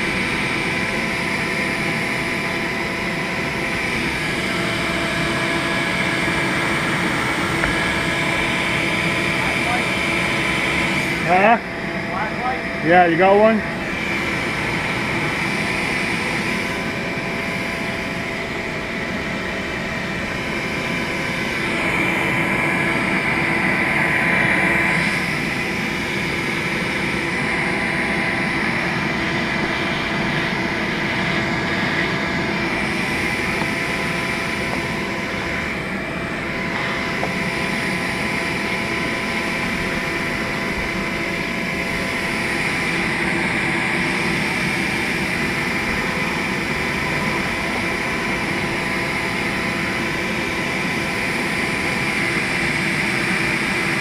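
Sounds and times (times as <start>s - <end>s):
vacuum motor whining: 0.0s - 54.0s.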